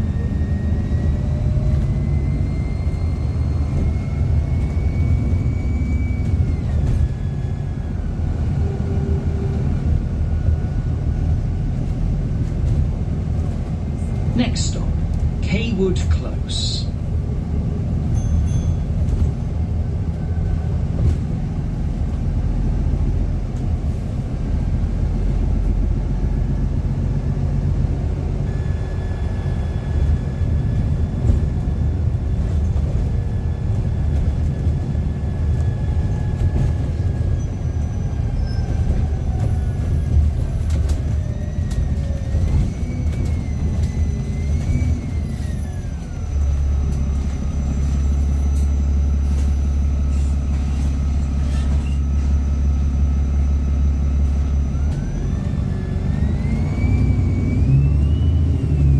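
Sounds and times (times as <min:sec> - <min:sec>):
bus engine and road rumble: 0:00.0 - 0:58.9.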